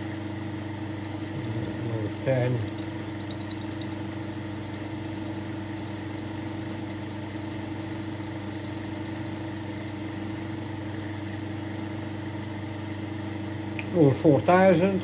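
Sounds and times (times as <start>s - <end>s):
lathe motor humming: 0.0s - 15.0s.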